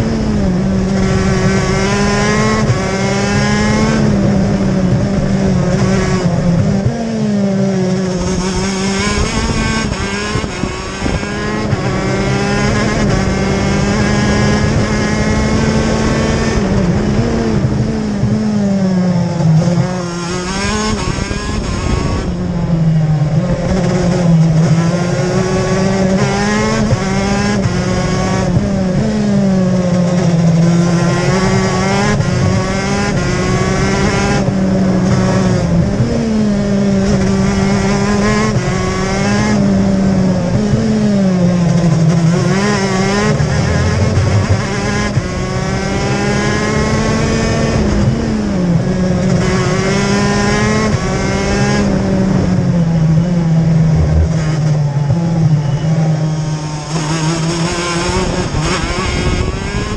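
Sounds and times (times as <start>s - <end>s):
kart engine racing: 0.0s - 59.9s.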